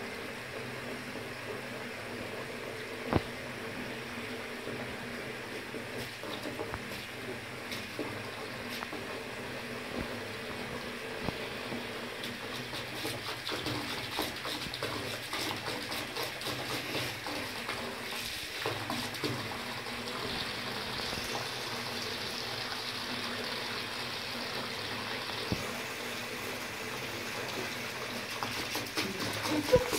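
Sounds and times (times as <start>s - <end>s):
water running from a tap: 3.3s - 29.9s.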